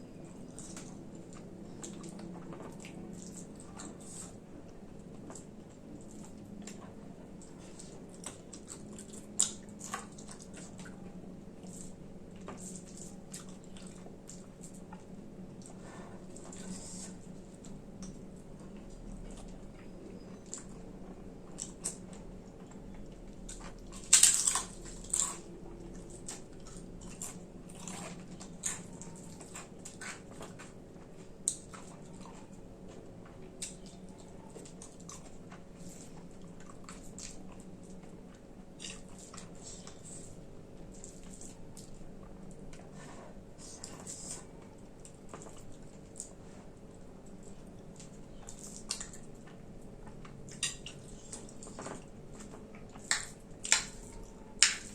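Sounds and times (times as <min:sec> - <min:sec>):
chewing and mouth sounds: 0:00.0 - 0:54.9.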